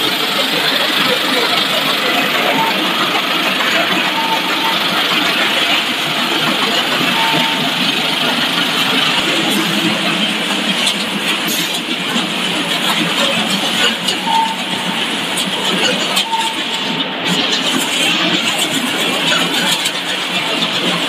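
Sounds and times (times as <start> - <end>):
production line machinery running: 0.0 - 21.0.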